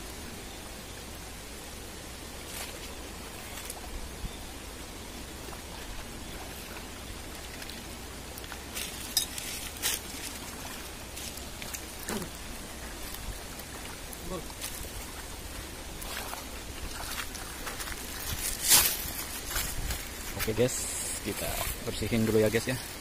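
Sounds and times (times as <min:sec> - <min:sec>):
stream water running over stones: 0:00.0 - 0:23.0.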